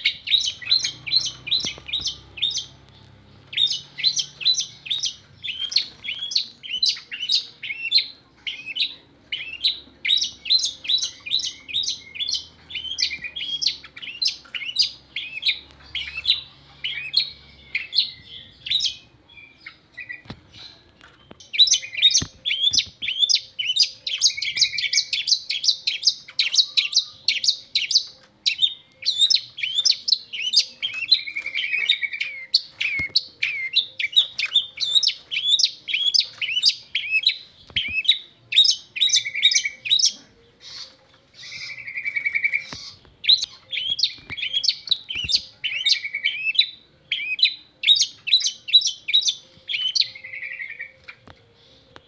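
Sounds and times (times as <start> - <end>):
bird singing chattering song: 0.0 - 52.0.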